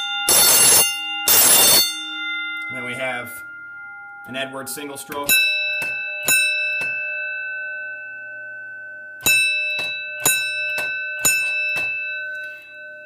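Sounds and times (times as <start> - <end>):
fire alarm bell gong strokes: 0.0 - 13.0.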